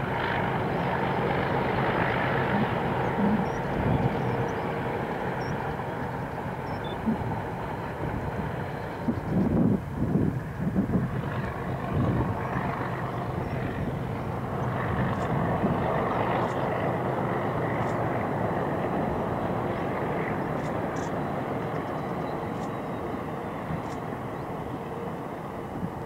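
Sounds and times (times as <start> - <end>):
diesel locomotive rumble: 0.0 - 26.0.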